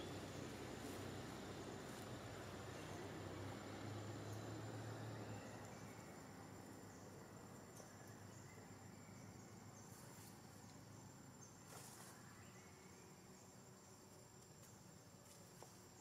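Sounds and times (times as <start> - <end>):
high insect whine: 0.0 - 16.0.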